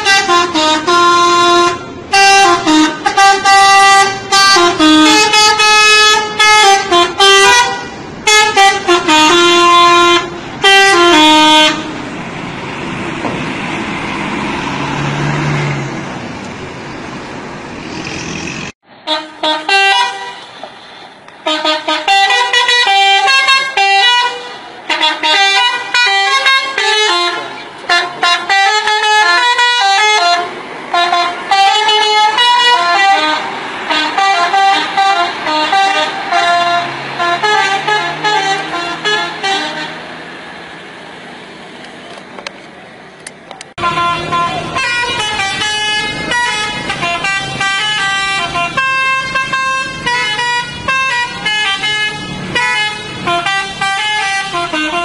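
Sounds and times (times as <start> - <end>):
multi-tone bus air horn melody: 0.0 - 12.1, 19.0 - 40.2, 43.8 - 55.0.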